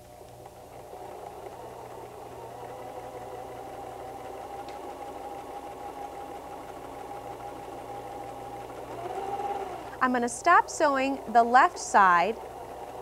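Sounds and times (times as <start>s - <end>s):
electric sewing machine running: 0.4s - 13.0s.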